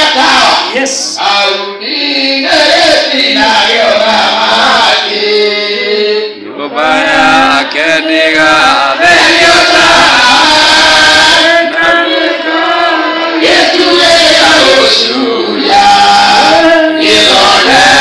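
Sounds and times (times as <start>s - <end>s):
group singing church chant: 0.0s - 18.0s.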